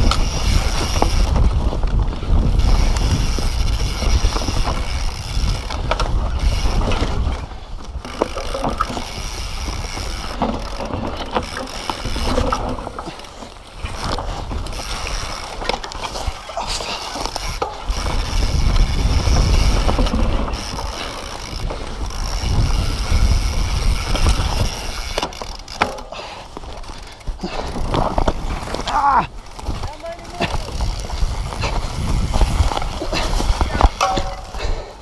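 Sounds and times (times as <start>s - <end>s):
wind buffeting microphone: 0.0s - 13.0s, 13.7s - 25.7s, 26.9s - 35.0s
freewheel ratcheting: 0.0s - 13.2s, 13.8s - 34.8s
bike rattling over bumps: 0.0s - 35.0s.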